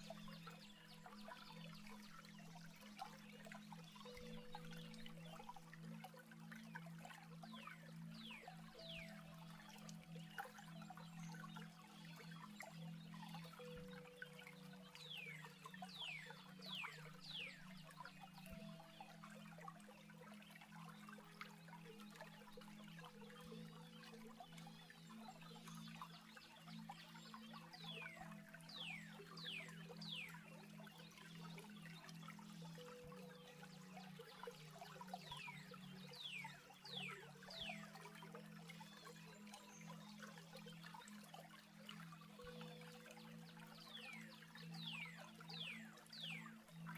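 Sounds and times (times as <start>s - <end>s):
trickling water stream: 0.0s - 46.9s.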